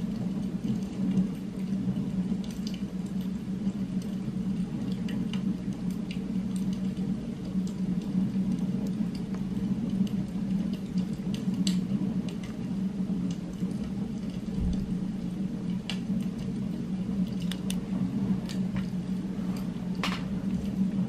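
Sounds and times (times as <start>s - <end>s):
low ambient hum: 0.0s - 21.0s
small clicks and ticks: 0.0s - 21.0s.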